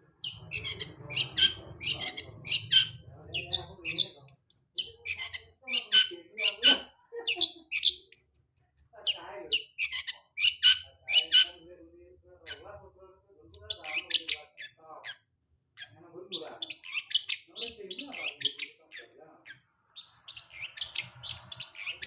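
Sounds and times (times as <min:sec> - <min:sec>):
bird harsh chattering song: 0:00.0 - 0:11.7, 0:13.4 - 0:22.0.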